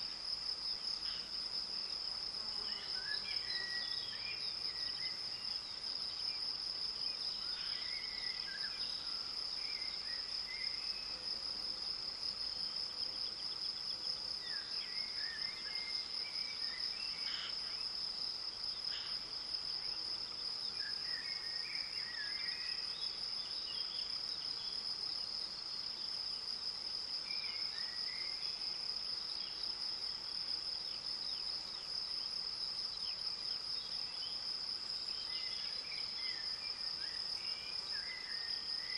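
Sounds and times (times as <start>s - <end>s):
crickets trilling: 0.0s - 38.9s
songbird singing: 0.8s - 11.9s, 12.6s - 29.9s, 30.8s - 38.9s.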